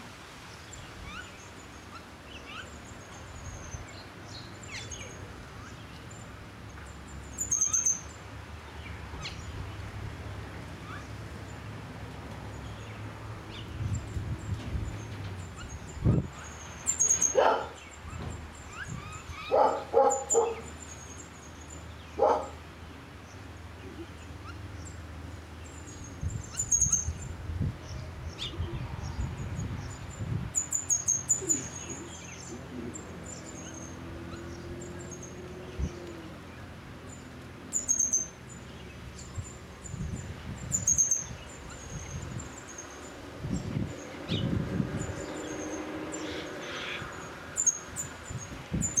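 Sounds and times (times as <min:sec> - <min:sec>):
small birds chirping: 0:00.5 - 0:09.9, 0:10.8 - 0:49.0.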